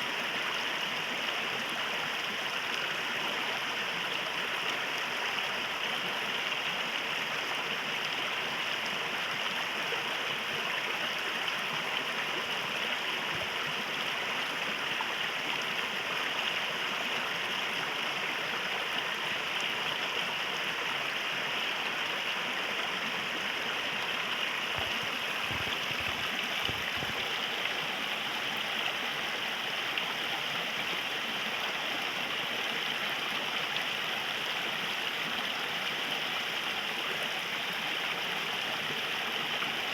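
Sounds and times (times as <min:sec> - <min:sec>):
river water rushing and gurgling: 0:00.0 - 0:39.9.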